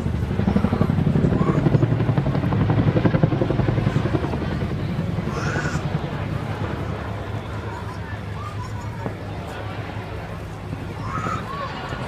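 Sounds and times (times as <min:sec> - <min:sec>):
helicopter rotor blades beating: 0:00.0 - 0:12.0.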